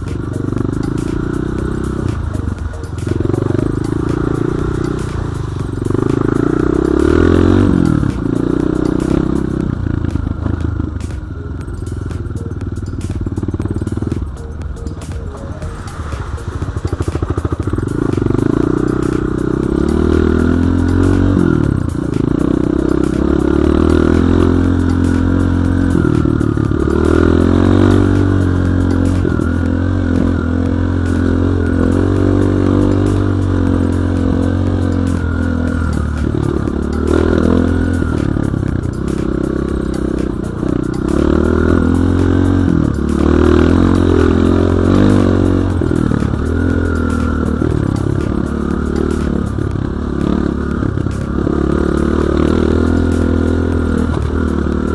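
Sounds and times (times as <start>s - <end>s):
bike rattling and scraping: 0.0s - 54.9s
dirt bike engine revving: 0.0s - 54.9s.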